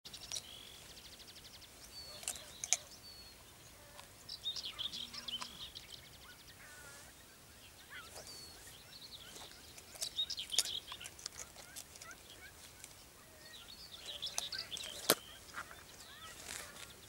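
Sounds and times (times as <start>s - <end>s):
birds singing and calling: 0.1s - 17.0s
high bird trill: 0.1s - 17.0s
steady background hiss: 0.1s - 17.0s.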